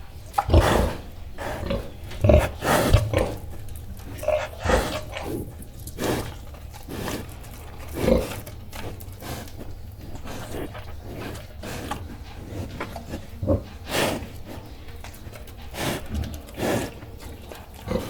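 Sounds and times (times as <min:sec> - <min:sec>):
pig chewing: 0:00.0 - 0:18.0
pig snorting and grunting: 0:00.2 - 0:18.0.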